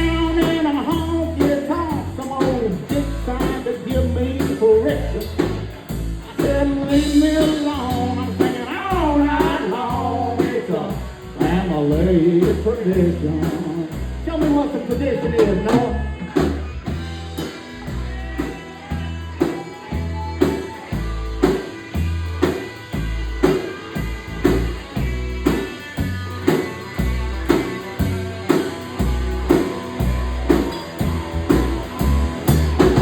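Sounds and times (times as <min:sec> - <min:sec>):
bass and guitar: 0:00.0 - 0:33.0
drum kit beat: 0:00.0 - 0:33.0.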